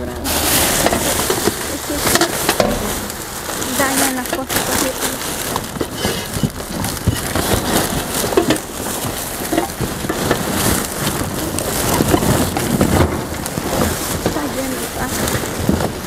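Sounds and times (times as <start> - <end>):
cardboard crunching and rustling: 0.0 - 16.0
small clatters: 0.0 - 16.0.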